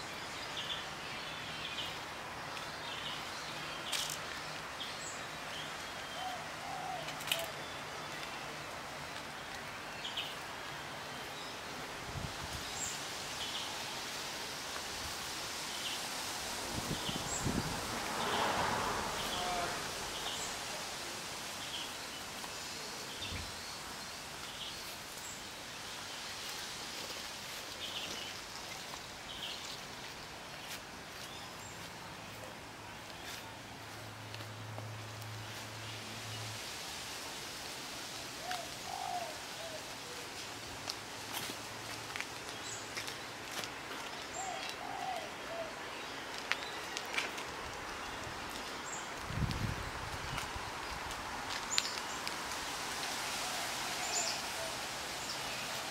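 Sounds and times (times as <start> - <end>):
outdoor background hiss: 0.0 - 55.9.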